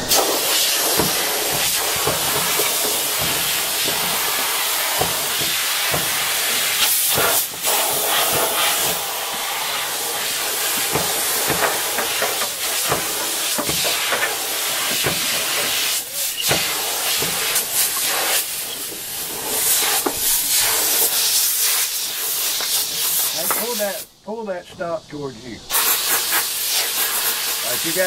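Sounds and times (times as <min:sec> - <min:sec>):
compressed air hissing from blow gun: 0:00.0 - 0:24.1, 0:25.0 - 0:28.0.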